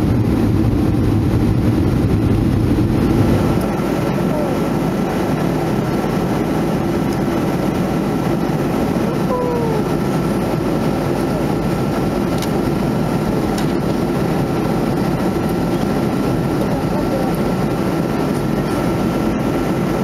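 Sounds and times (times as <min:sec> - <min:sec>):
airliner cabin airflow rush: 0:00.0 - 0:20.0.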